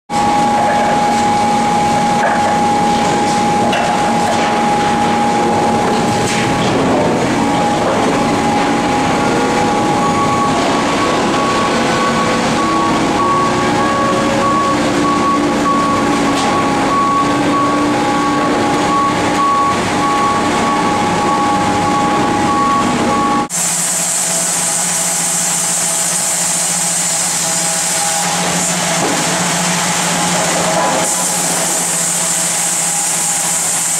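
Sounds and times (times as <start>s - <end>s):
sawmill machinery with high whine: 0.1s - 33.9s
steady machine sound: 0.1s - 33.9s.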